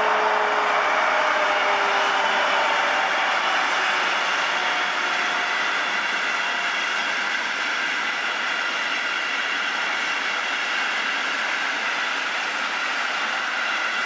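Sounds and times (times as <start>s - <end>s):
train wagons rolling on rails: 0.0s - 14.0s.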